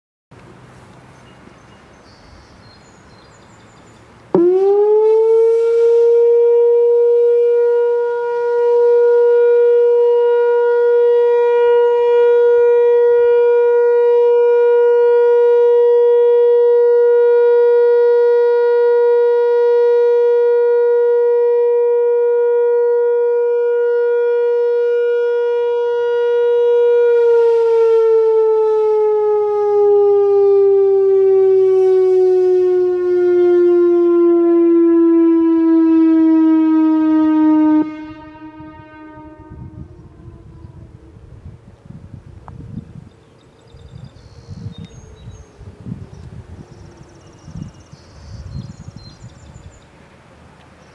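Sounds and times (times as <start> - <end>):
outdoor warning siren: 4.3 - 50.0.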